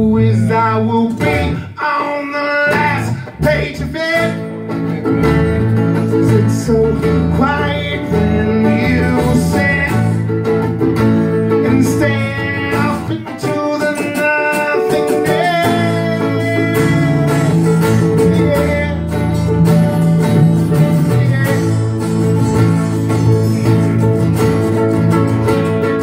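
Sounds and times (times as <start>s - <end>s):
person singing: 0.0s - 4.7s, 6.0s - 10.4s, 11.4s - 24.6s
strummed acoustic guitars: 0.0s - 26.0s.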